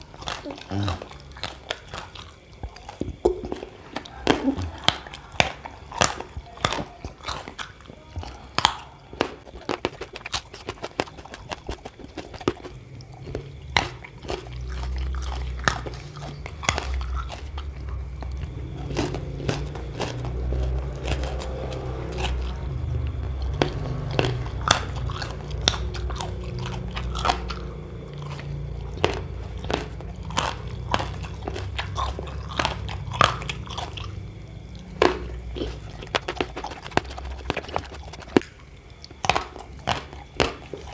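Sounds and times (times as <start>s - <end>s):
crunching and chewing crisp food: 0.0s - 40.9s
low steady hum: 0.0s - 40.9s.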